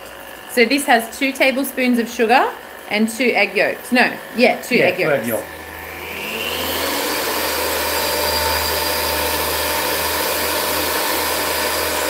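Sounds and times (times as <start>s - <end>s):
electric hand mixer whisking: 0.0s - 12.0s.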